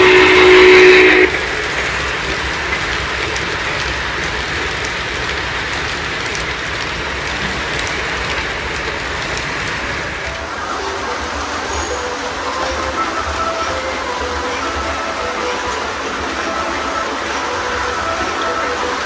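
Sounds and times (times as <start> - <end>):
model train cars rolling on track: 0.0 - 19.0.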